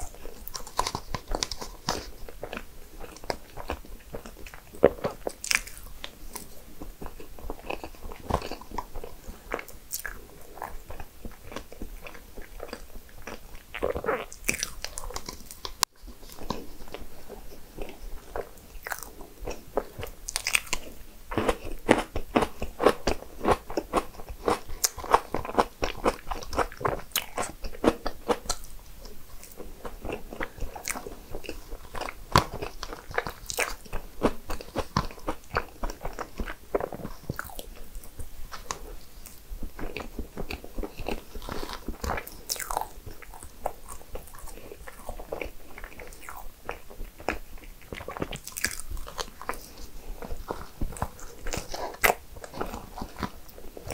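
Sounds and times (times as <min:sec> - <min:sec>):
close-miked eating crunches: 0:00.0 - 0:53.9.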